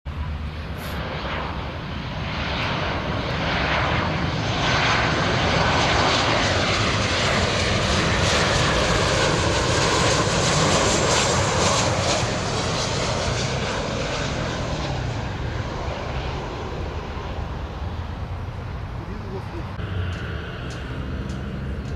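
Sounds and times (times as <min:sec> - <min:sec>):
jet engine whine: 0:00.1 - 0:21.9
jet engines roaring: 0:00.1 - 0:21.9.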